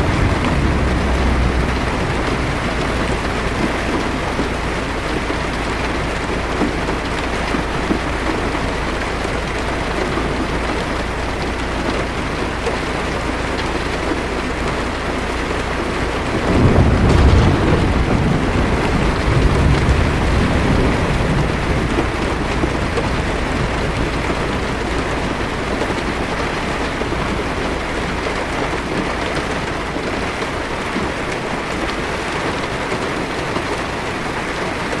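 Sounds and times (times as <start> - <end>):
heavy rain on a car: 0.0 - 35.0
thunder rumbling: 0.0 - 35.0.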